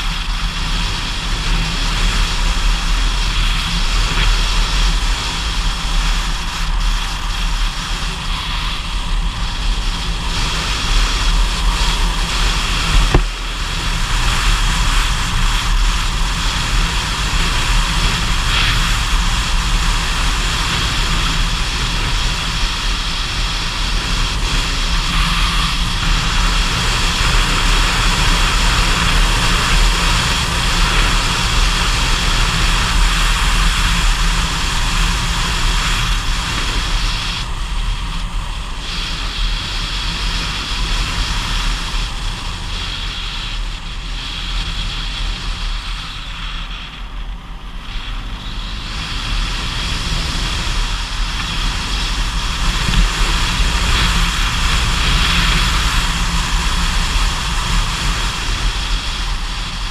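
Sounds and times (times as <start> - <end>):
low engine drone: 0.0 - 59.9
wind and road noise: 0.0 - 59.9.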